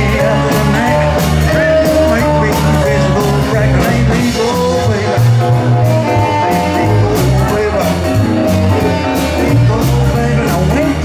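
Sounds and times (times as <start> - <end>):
bending lead melody: 0.0 - 11.0
drum beats: 0.0 - 11.0
live rock and roll band: 0.0 - 11.0
walking bass line: 0.0 - 11.0.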